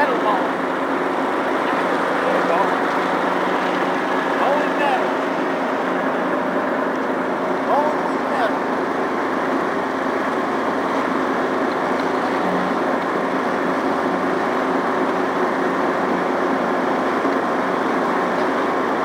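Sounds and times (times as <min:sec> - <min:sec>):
riding lawn mower running: 0:00.0 - 0:19.0.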